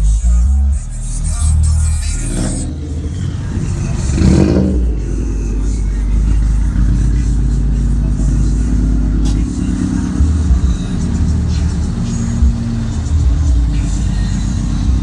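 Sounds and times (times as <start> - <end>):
car engine revving: 1.0 - 15.0.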